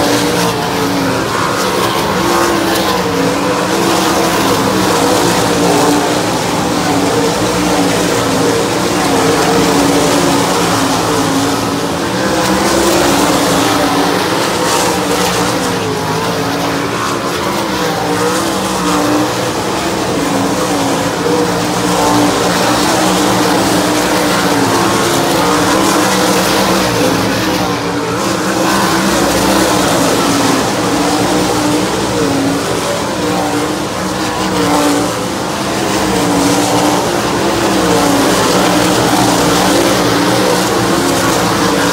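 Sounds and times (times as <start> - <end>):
race car engines: 0.0 - 41.9.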